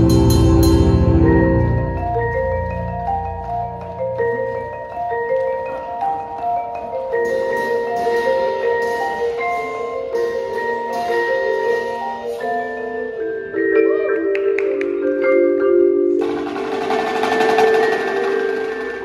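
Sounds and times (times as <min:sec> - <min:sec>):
marimbas and vibraphones playing: 0:00.0 - 0:19.0.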